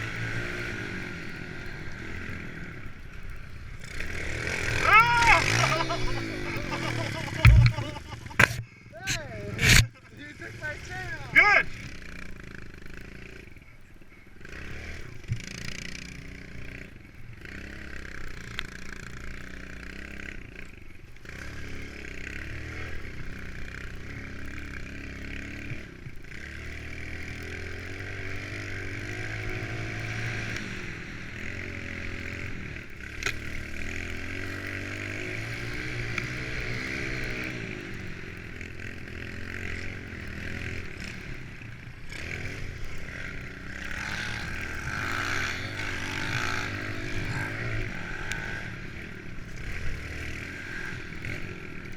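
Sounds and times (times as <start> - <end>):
small motorbike engines revving: 0.0 - 51.9.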